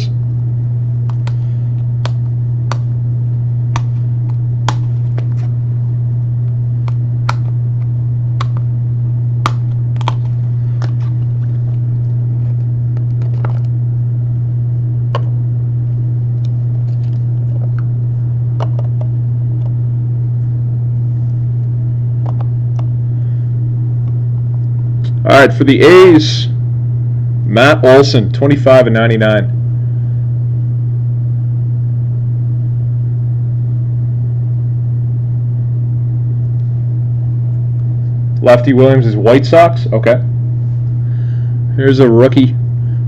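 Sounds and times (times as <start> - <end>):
loud steady low hum: 0.0 - 43.0.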